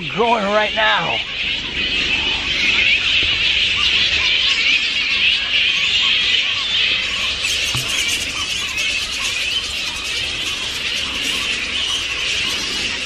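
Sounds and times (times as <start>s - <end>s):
fruit bats squealing and chattering: 0.0s - 13.0s.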